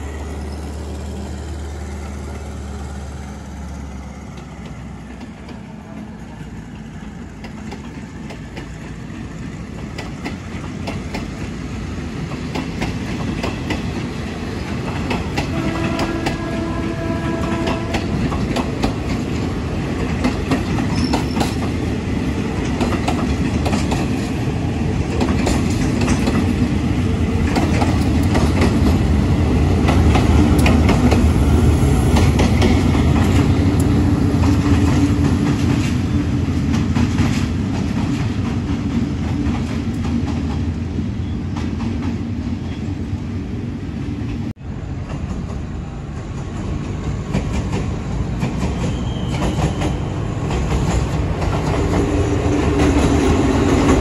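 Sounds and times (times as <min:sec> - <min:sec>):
train wheels clickety-clack: 0:00.0 - 0:42.9, 0:44.2 - 0:54.0
diesel locomotive passing: 0:00.0 - 0:54.0
train rumble: 0:00.0 - 0:54.0.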